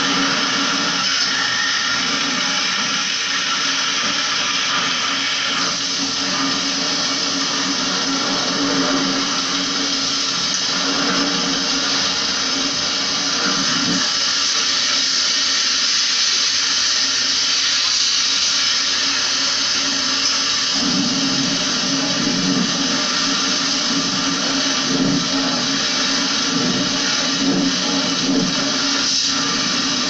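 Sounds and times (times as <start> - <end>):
pressure washer water hiss: 0.0 - 30.0.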